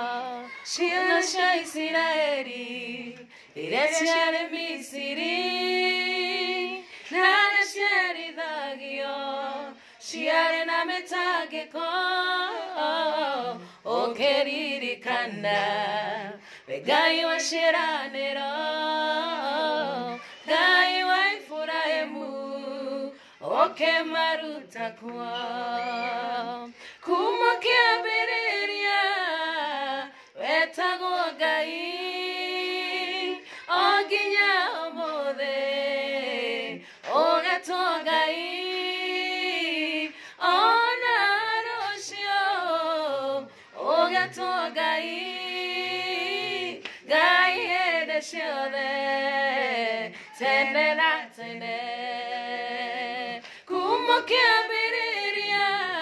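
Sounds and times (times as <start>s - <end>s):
women singing a cappella: 0.0s - 56.0s.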